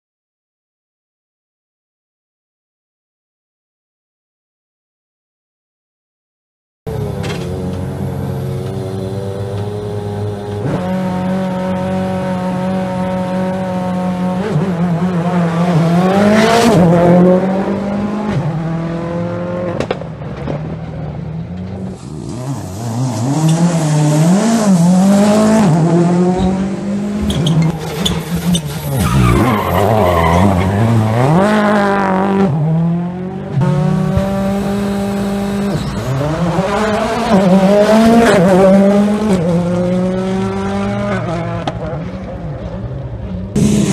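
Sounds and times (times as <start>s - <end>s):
rally car engines revving: 6.9s - 43.9s.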